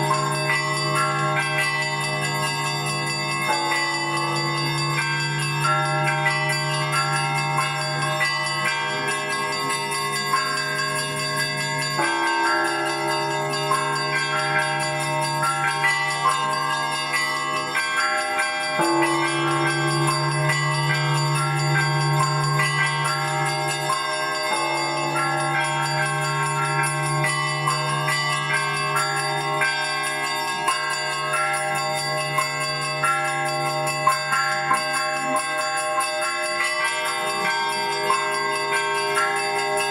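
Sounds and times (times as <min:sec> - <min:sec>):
small church bells ringing: 0:00.0 - 0:39.9.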